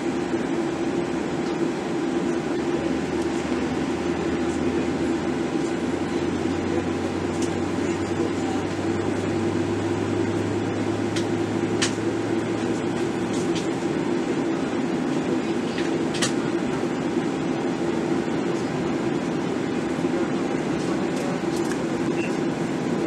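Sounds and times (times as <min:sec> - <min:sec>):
air-conditioning hum: 0:00.0 - 0:23.0.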